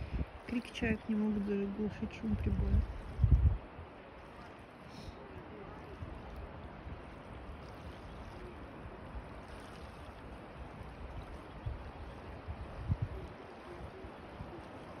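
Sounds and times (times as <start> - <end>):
surf washing on shore: 0.0 - 15.0
wind buffeting microphone: 0.0 - 15.0.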